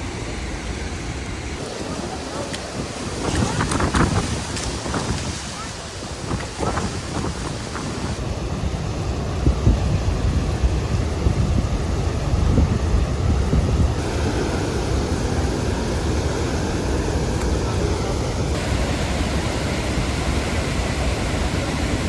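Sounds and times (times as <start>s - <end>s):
waterfall roaring: 0.0s - 22.0s
wind buffeting microphone: 0.0s - 22.0s.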